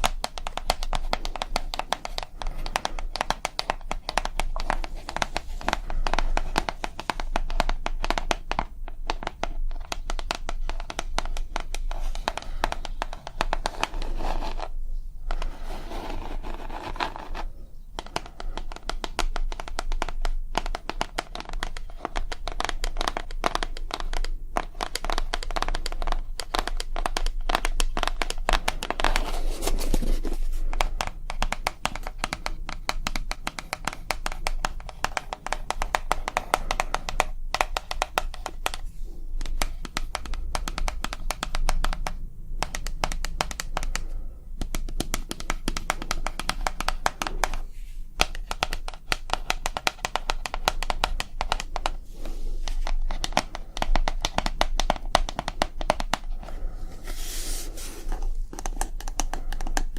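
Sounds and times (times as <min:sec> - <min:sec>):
fast tapping and scratching: 0:00.0 - 0:59.9.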